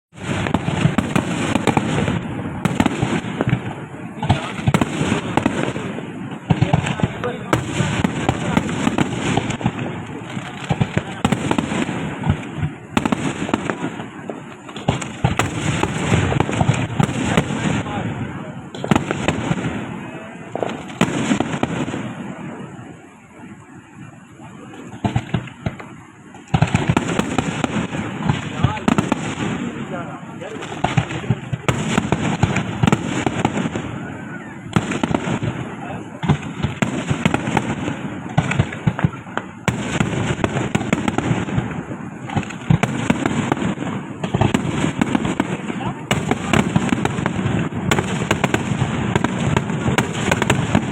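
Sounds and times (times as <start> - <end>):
firecrackers crackling: 0.1 - 50.9
sharp firework bangs: 0.1 - 50.9.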